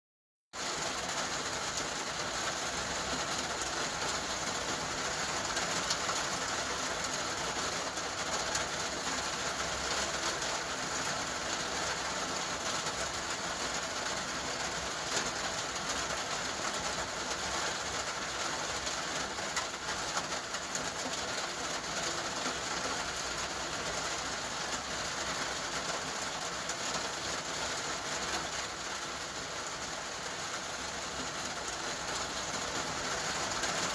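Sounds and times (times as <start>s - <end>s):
steady rain falling: 0.6s - 33.9s.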